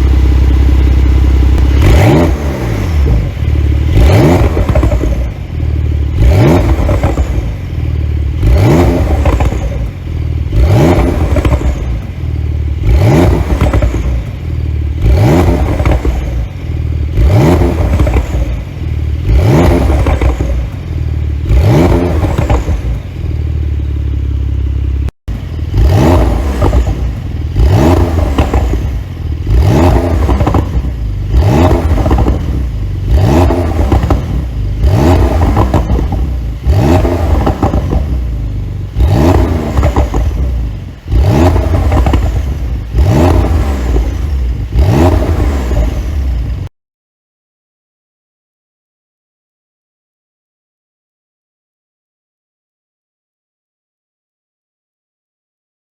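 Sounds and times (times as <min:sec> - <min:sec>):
exhaust popping and crackling: 0:00.0 - 0:23.4, 0:24.1 - 0:46.7
car engine revving: 0:00.0 - 0:46.7.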